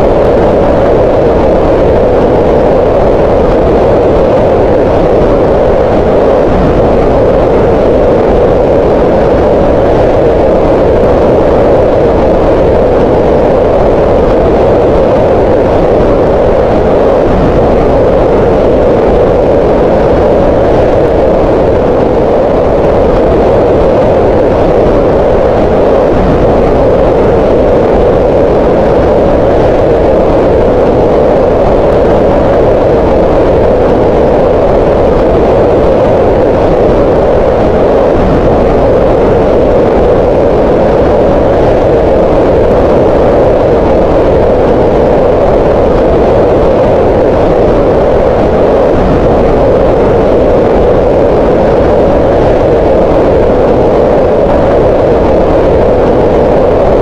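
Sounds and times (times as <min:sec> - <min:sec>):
steady synthetic noise: 0:00.0 - 0:57.0.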